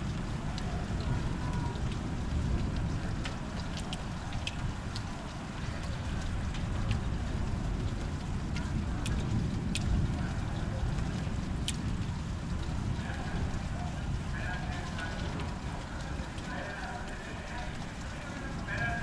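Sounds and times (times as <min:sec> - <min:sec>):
raindrops ticking: 0:00.0 - 0:19.0
wind and rain rumbling: 0:00.0 - 0:19.0.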